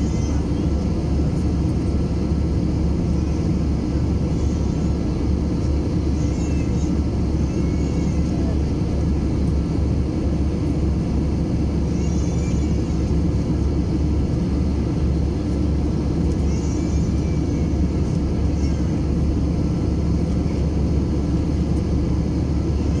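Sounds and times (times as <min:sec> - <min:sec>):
airplane cabin low rumble: 0:00.0 - 0:23.0.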